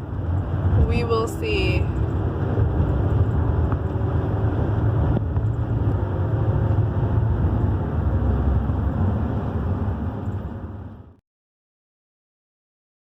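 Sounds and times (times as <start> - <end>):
van engine and road noise: 0.0 - 11.2.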